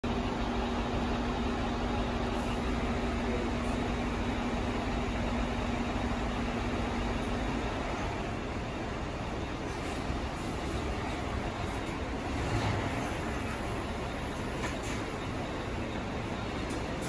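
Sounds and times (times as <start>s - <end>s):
diesel engines idling: 0.0s - 17.0s.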